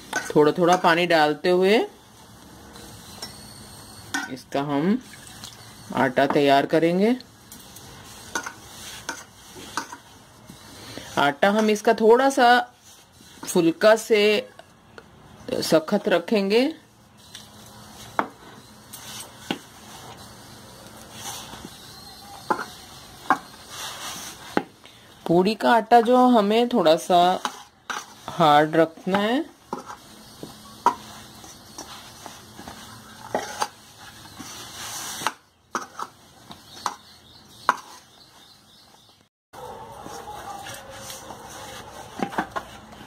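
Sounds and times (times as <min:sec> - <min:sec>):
hands mixing dough: 0:00.0 - 0:43.0.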